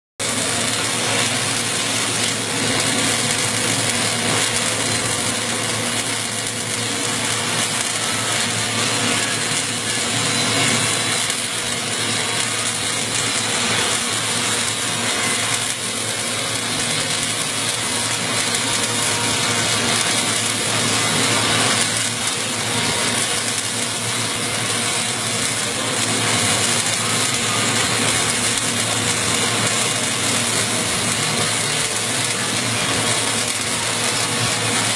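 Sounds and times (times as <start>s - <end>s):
welding arc crackle: 0.2s - 34.9s.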